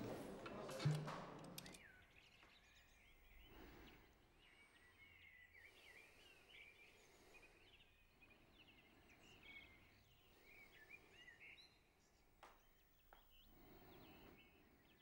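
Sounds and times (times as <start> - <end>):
small birds chirping: 1.4 - 15.0.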